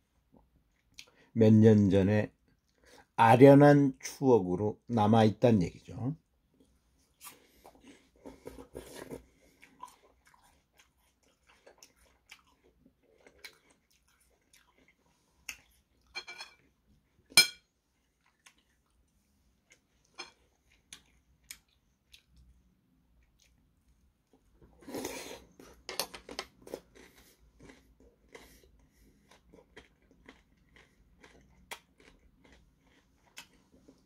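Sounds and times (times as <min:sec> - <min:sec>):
person chewing fruit: 0:06.6 - 0:34.0.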